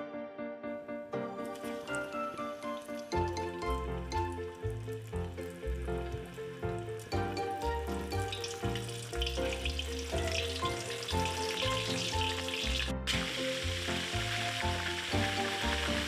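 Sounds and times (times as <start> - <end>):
food sizzling in hot oil: 1.4 - 16.0.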